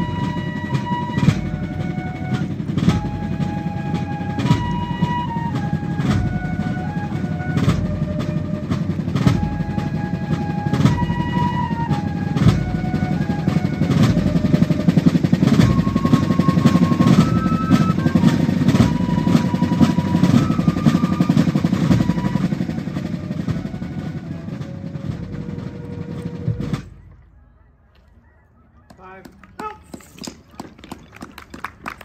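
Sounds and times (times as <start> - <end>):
fifes playing melody: 0.0 - 26.7
drums beating: 0.0 - 27.8, 28.8 - 32.0.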